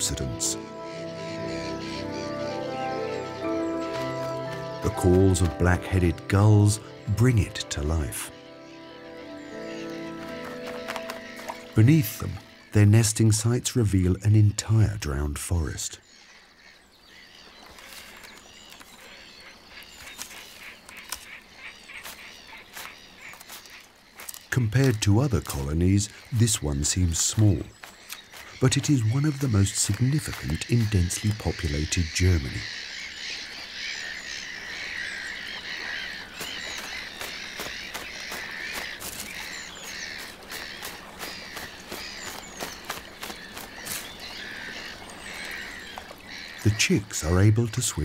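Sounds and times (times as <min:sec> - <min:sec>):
gulls calling: 0:00.0 - 0:48.0.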